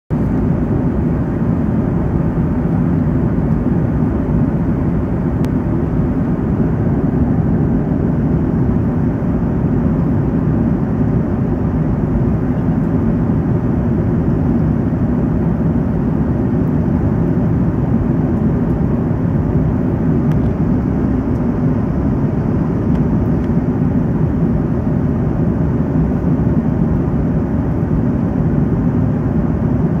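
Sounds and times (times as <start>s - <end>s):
jet engines droning: 0.1s - 30.0s.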